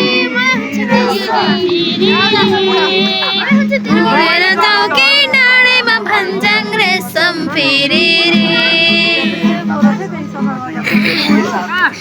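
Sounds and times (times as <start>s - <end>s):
high voices singing folk song: 0.0s - 12.0s.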